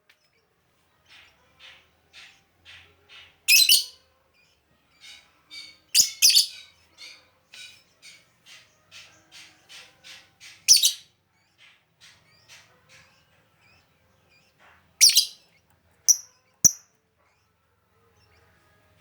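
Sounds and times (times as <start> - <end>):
bird chirping: 1.0 - 17.5.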